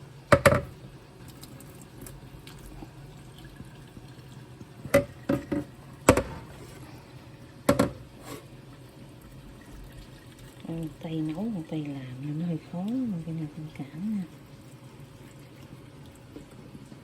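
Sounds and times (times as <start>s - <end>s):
water draining: 0.3s - 17.0s.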